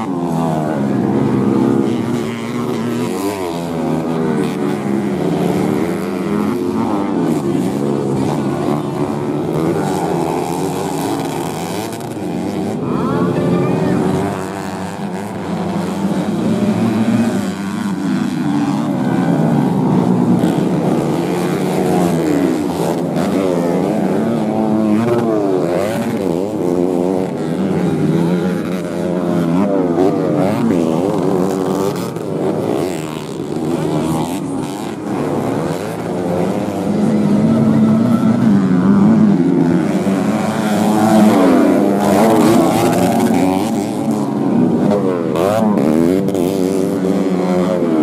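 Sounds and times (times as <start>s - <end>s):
motorcycle engines revving: 0.0s - 48.0s.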